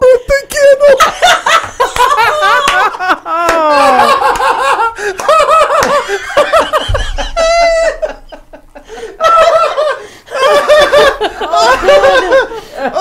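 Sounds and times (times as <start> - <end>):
people laughing hard: 0.1 - 13.0.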